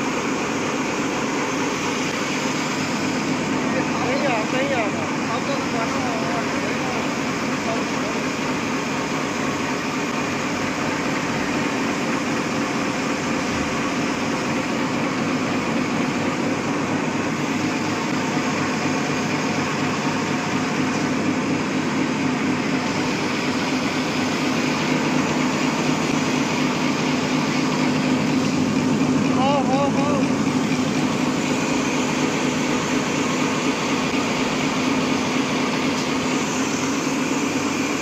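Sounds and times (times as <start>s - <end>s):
low machine hum: 0.0s - 38.0s.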